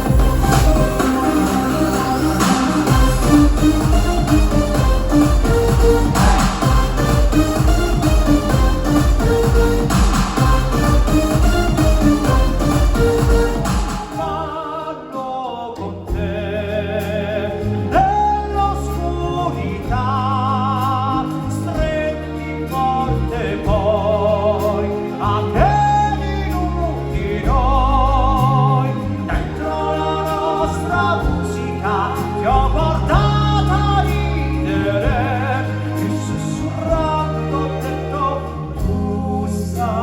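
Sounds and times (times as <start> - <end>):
band accompaniment with bass: 0.0 - 40.0
singer with wide vibrato: 0.0 - 40.0.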